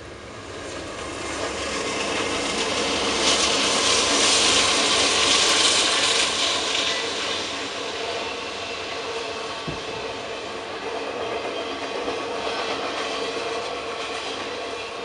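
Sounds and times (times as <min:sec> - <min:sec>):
diesel locomotive engine rumble: 0:00.0 - 0:15.0
train wheels rushing on rails: 0:00.0 - 0:15.0.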